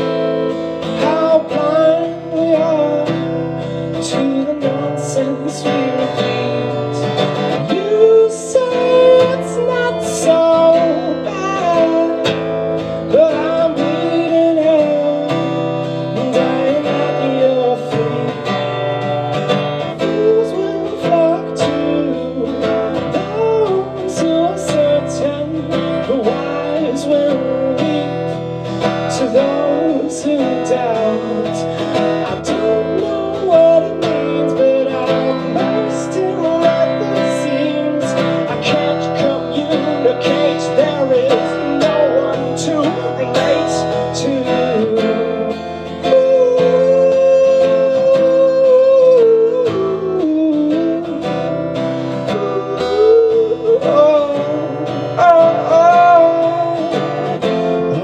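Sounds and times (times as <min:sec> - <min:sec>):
acoustic guitar strummed: 0:00.0 - 0:58.0
man singing: 0:00.0 - 0:58.0.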